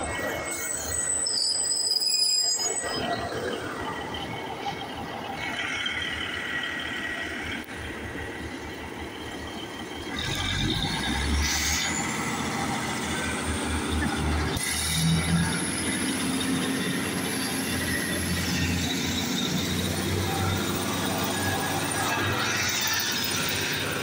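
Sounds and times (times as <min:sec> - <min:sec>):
diesel train engine: 0:00.0 - 0:24.0
high wheel squeal: 0:00.0 - 0:24.0
train wheels on rails: 0:00.0 - 0:24.0.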